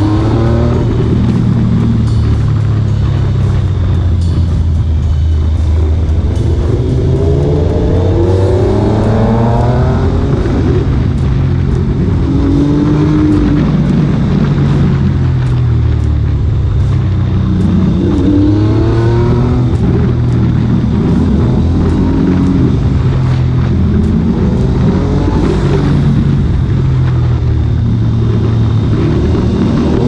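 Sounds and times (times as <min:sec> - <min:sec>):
low engine drone: 0:00.0 - 0:30.0
motorcycle engines accelerating: 0:00.0 - 0:30.0.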